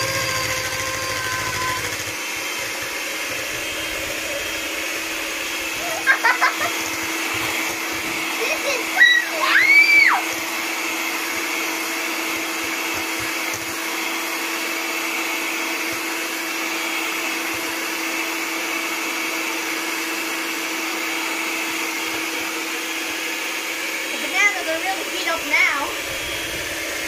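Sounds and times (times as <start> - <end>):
electric hand mixer running: 0.0 - 27.0.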